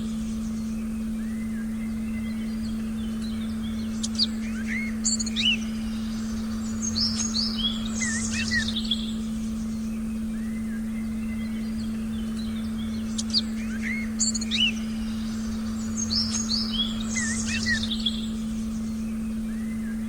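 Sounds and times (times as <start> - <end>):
songbirds chirping: 0.0 - 20.0
steady low pure tone: 0.0 - 20.0.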